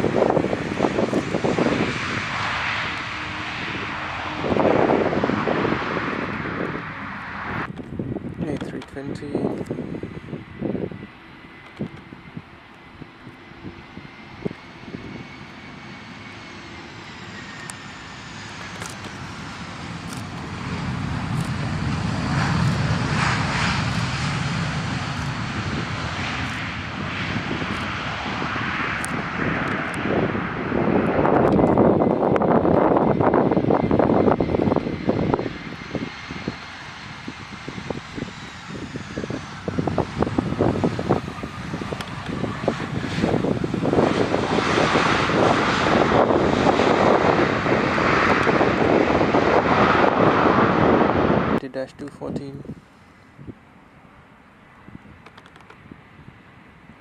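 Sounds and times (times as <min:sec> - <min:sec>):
jet airliner engines rushing: 0:00.0 - 0:57.0.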